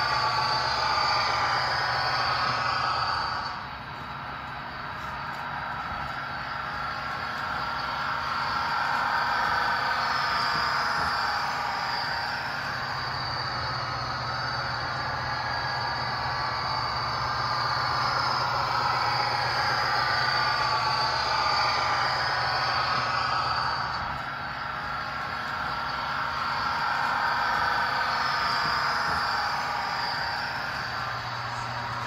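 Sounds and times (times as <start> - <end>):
simulated diesel engine: 0.0 - 32.0.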